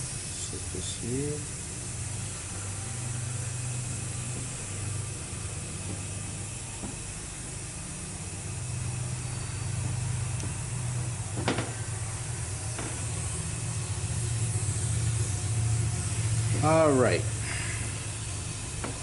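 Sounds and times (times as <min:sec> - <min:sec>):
low hum: 0:00.0 - 0:19.0
steady hiss: 0:00.0 - 0:19.0.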